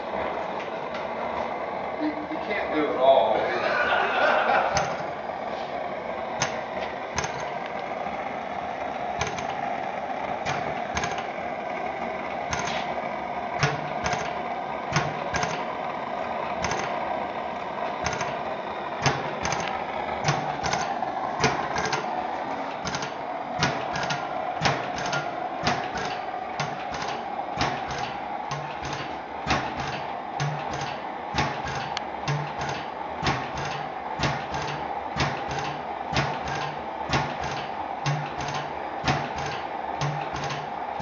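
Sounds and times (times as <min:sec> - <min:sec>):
engine compressor clacking: 0:00.0 - 0:41.0.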